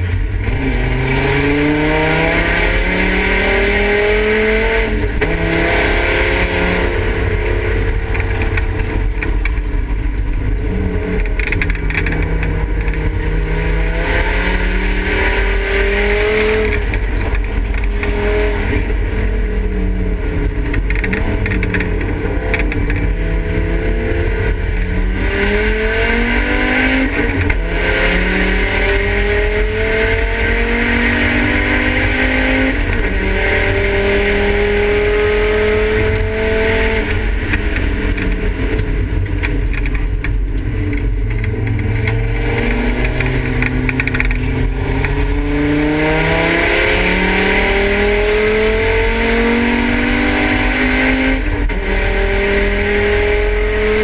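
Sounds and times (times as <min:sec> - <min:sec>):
race car engine accelerating: 0:00.0 - 0:54.0
road and tyre noise: 0:00.0 - 0:54.0.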